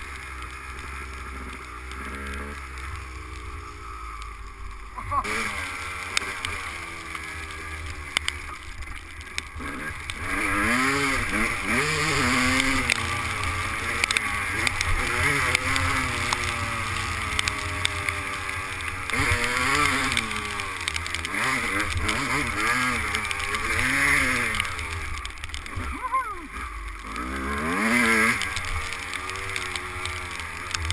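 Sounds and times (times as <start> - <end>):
motocross bike engine revving: 0.0 - 30.9.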